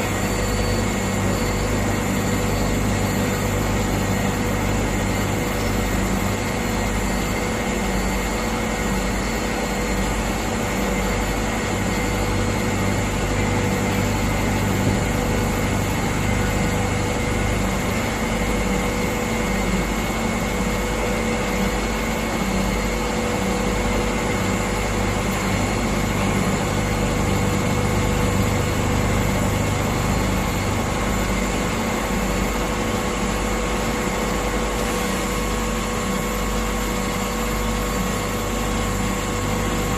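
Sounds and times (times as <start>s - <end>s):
grinding machine whining: 0.0s - 34.6s.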